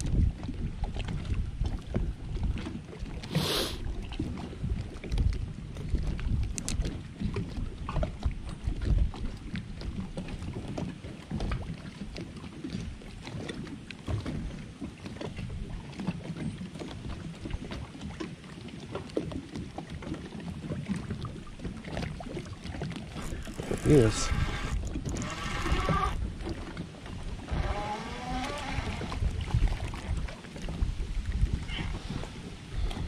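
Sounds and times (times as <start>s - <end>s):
water lapping against boat hull: 0.0s - 33.0s
small splashes and knocks: 3.9s - 33.0s.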